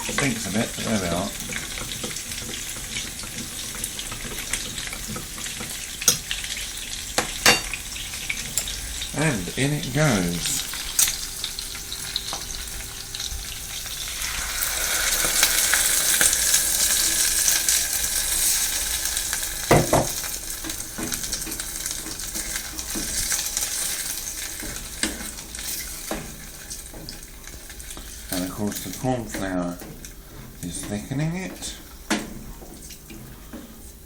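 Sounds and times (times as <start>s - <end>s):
sauce sizzling in a hot pan: 0.0s - 34.0s.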